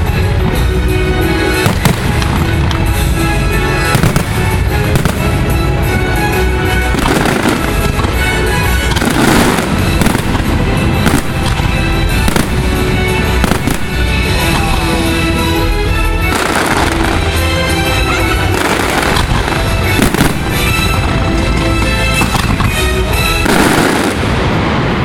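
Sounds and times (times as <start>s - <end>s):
loud show soundtrack music: 0.0s - 25.0s
firework shell bursts and crackling: 0.8s - 14.6s, 16.2s - 24.7s.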